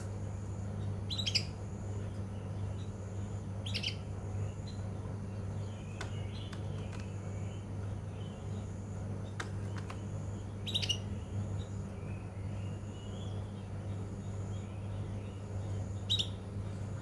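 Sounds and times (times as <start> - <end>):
canary chirping: 0.7 - 8.7, 10.4 - 16.5.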